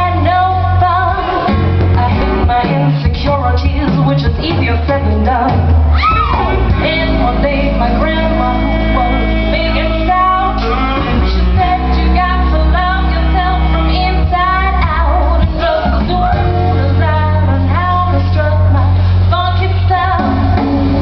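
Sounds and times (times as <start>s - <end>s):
live jazz band playing: 0.0s - 21.0s
low bass notes: 0.0s - 21.0s
woman singing: 0.0s - 21.0s.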